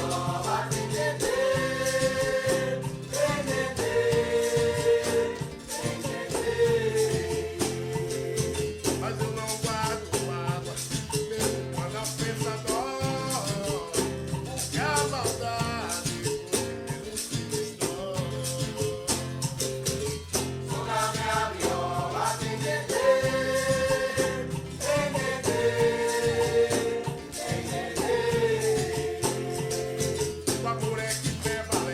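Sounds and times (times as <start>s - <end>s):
shaker-like rattles: 0.0s - 31.9s
steady percussion rhythm: 0.0s - 31.9s.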